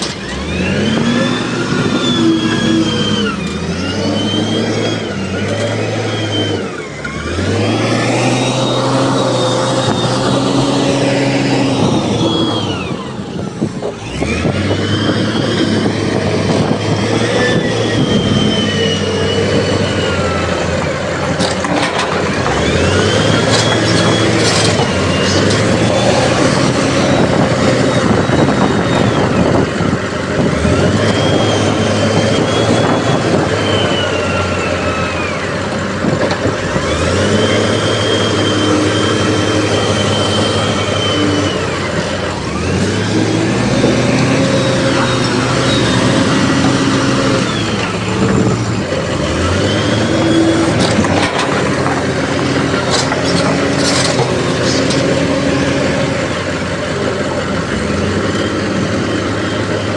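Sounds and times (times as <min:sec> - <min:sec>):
diesel earthmoving machine revving: 0:00.0 - 0:59.9.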